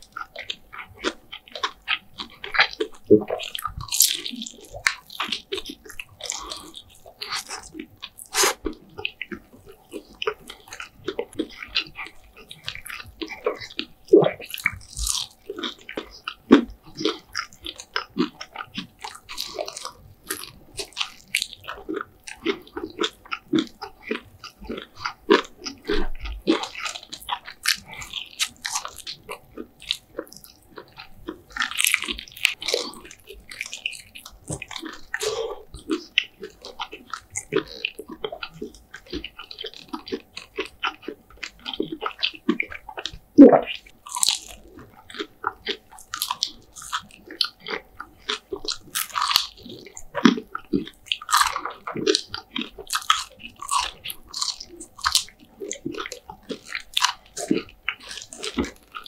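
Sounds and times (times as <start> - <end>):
person biting and chewing: 0.1 - 59.0.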